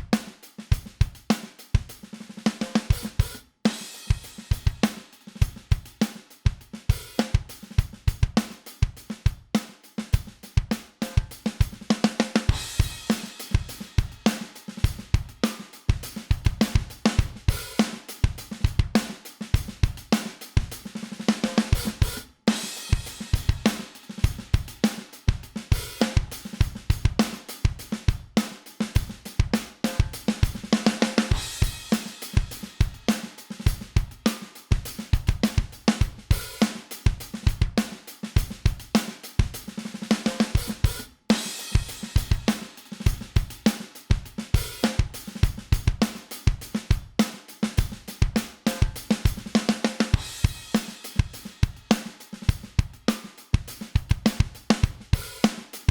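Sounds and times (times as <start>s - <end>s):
drum kit groove: 0.0s - 55.9s.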